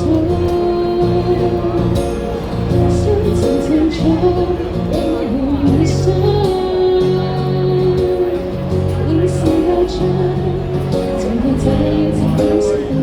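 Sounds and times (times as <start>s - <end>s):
live pop band music: 0.0s - 13.0s
person singing: 0.0s - 13.0s.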